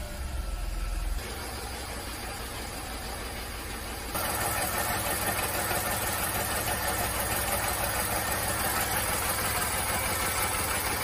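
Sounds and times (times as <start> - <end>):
car engine idling rough: 0.0 - 11.0.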